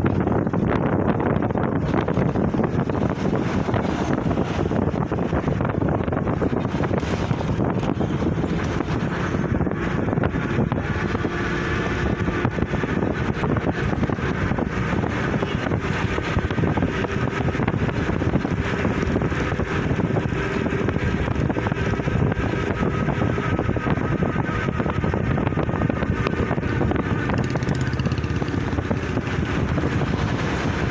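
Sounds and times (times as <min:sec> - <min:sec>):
road traffic: 0:00.0 - 0:30.9
wind noise on microphone: 0:00.0 - 0:30.9.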